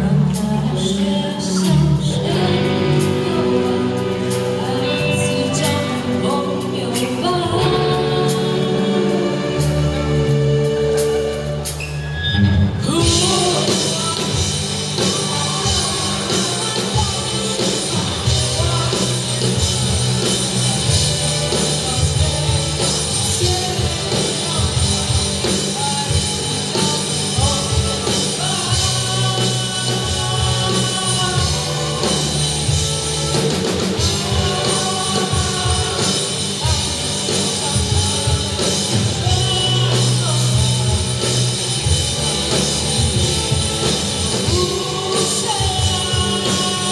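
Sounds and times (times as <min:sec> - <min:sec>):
person singing lead vocal: 0:00.0 - 0:11.8, 0:12.5 - 0:46.9
rock band playing live: 0:00.0 - 0:46.9.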